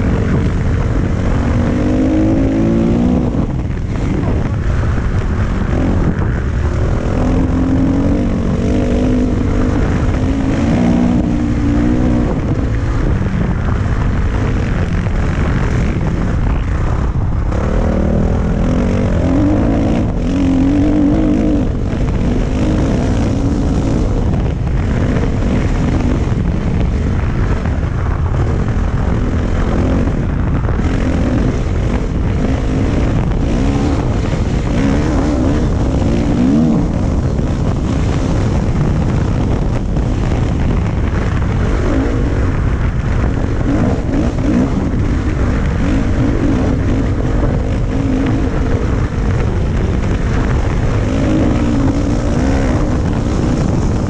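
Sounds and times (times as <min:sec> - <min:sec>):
dirt bike engine revving: 0:00.0 - 0:38.5, 0:40.2 - 0:54.0
wind rumble on microphone: 0:00.0 - 0:54.0.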